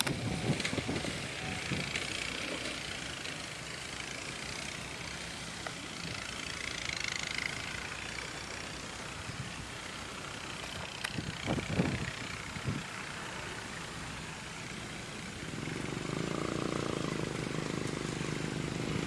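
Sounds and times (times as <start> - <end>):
locomotive engine droning: 0.0 - 19.0.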